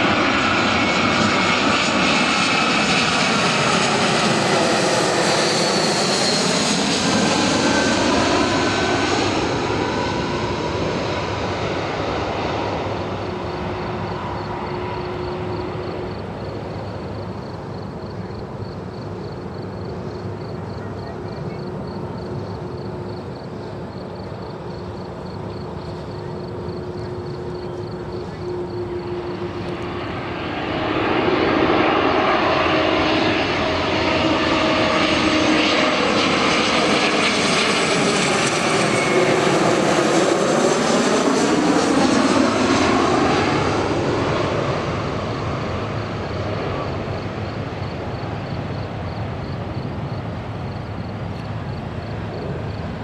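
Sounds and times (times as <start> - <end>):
jet airliner flying overhead: 0.0 - 53.0.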